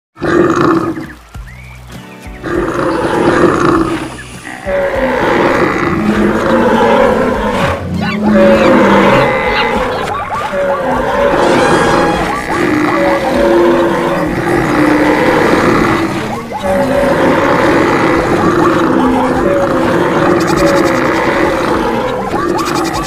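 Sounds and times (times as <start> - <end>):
background music: 0.2 - 23.0
animal roars and calls: 2.4 - 23.0.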